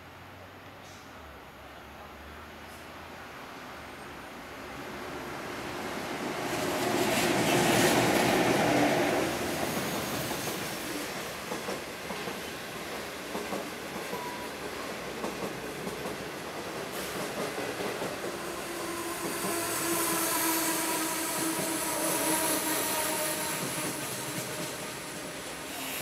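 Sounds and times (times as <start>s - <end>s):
train wheels rumbling over rails: 5.0s - 26.0s.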